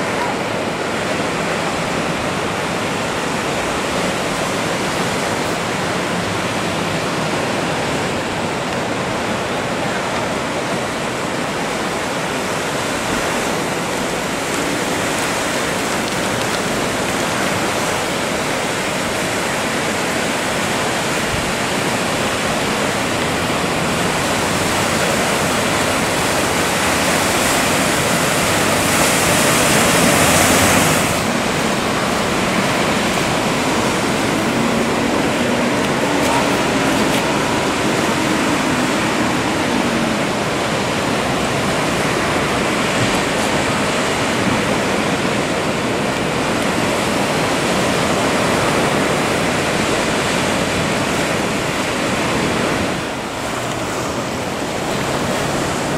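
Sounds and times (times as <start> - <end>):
waves breaking: 0.0 - 55.9.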